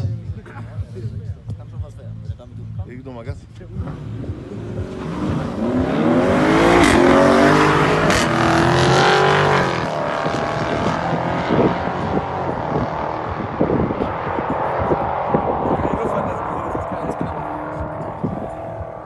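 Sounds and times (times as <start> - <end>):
car engine accelerating hard: 3.6 - 19.0.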